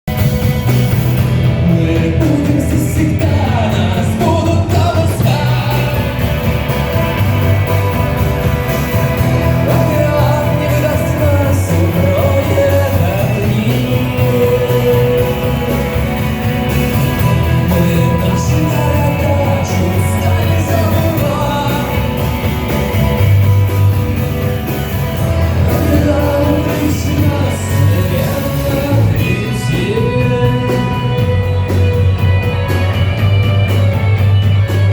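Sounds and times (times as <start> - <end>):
steady bass line: 0.0 - 34.9
band playing: 0.1 - 34.9
person singing: 1.3 - 7.3, 8.6 - 23.2, 25.2 - 33.0.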